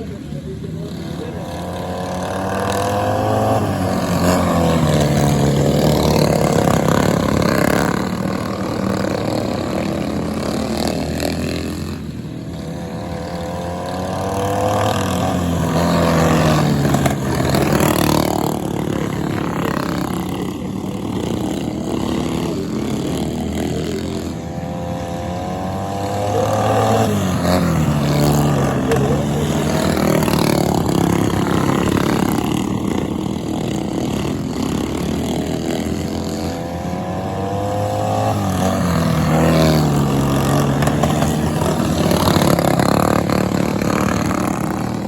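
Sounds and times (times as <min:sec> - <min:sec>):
racing lawn mower engines: 0:00.0 - 0:45.0.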